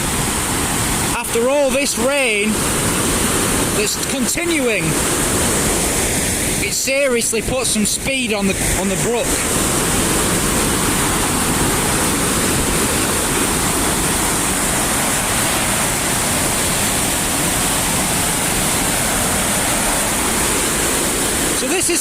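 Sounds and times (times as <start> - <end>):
floodwater rushing over weir: 0.0 - 22.0.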